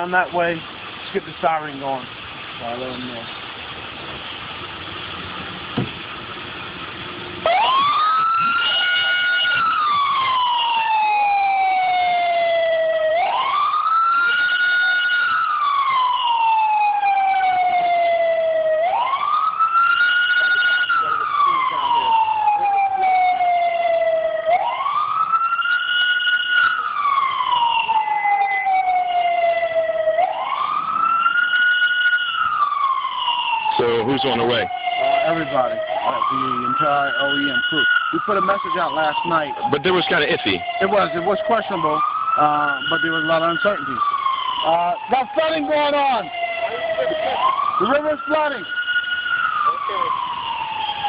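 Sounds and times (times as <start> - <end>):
emergency siren wailing: 0.0 - 51.0.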